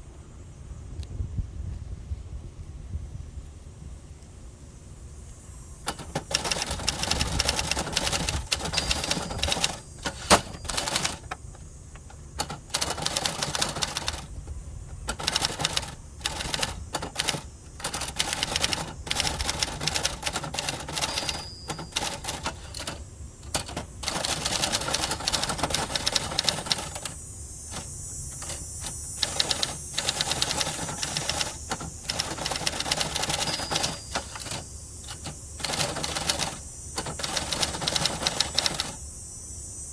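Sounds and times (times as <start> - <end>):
manual typewriter typing: 5.8 - 39.0.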